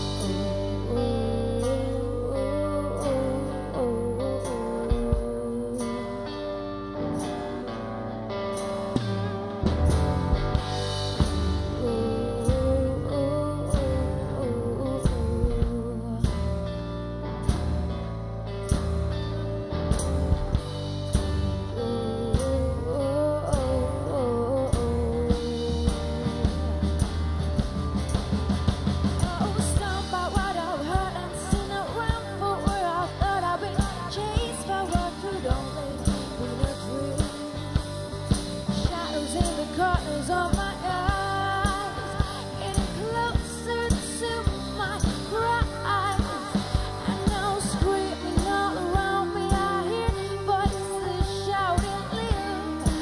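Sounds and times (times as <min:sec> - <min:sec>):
woman singing: 0:00.0 - 0:09.7, 0:10.5 - 0:18.1, 0:20.0 - 0:27.2, 0:29.1 - 0:53.0
live rock band playing: 0:00.0 - 0:53.0.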